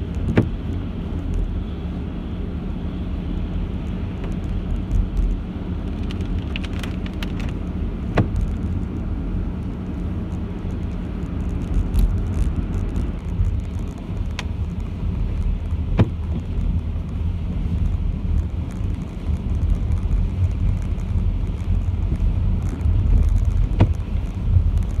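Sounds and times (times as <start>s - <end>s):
raindrops ticking on windscreen: 0.0s - 1.6s, 3.3s - 25.0s
engine and wet road rumble: 0.0s - 25.0s.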